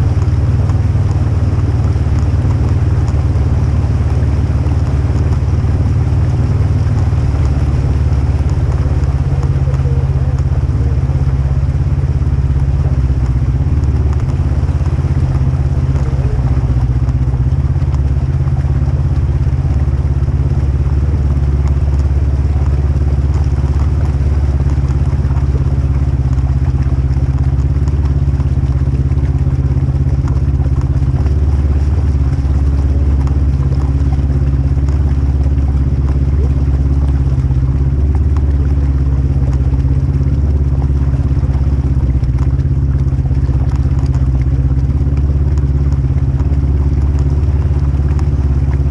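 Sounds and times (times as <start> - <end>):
off-road vehicle engine droning: 0.0 - 48.9.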